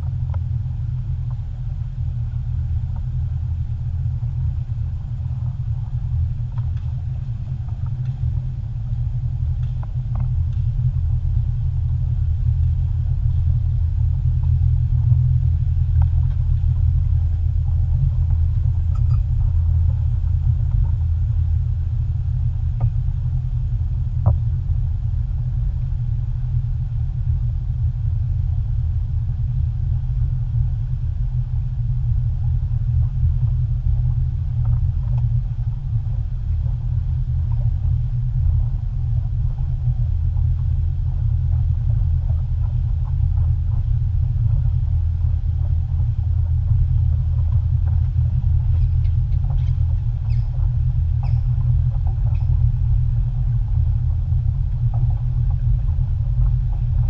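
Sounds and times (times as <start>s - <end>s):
boat engine rumbling: 0.0s - 57.0s.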